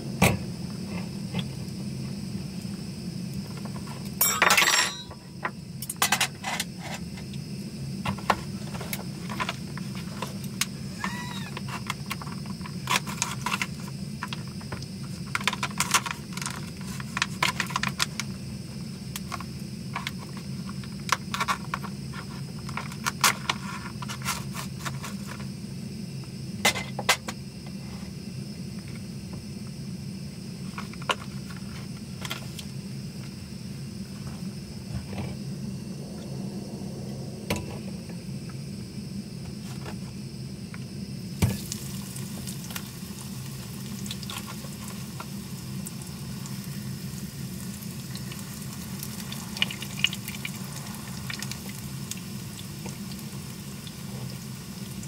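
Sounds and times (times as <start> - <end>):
gas stove burning: 0.0 - 55.0.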